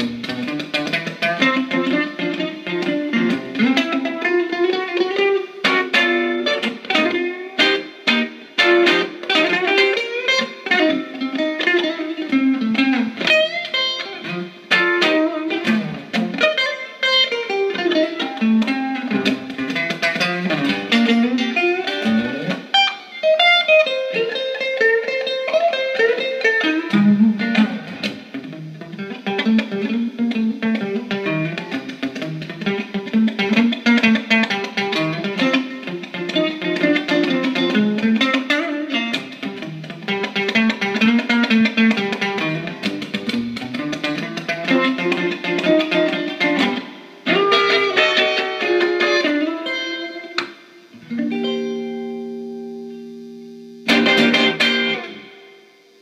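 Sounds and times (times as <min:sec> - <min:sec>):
electric guitar blues shuffle: 0:00.0 - 0:56.0.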